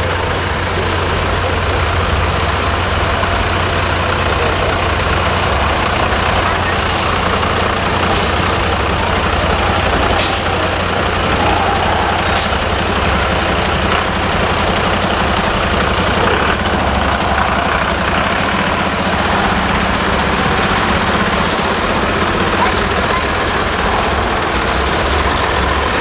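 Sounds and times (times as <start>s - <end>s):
diesel truck engines running: 0.0s - 26.0s.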